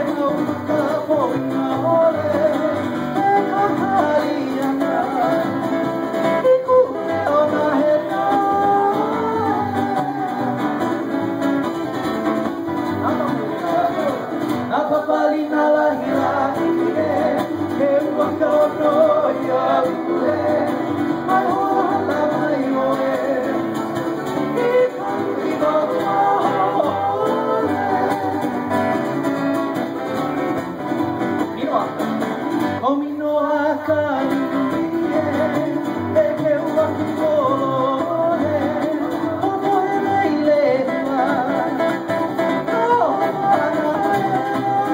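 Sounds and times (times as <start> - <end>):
person singing: 0.0 - 30.2, 32.8 - 44.9
strummed guitar: 0.0 - 44.9.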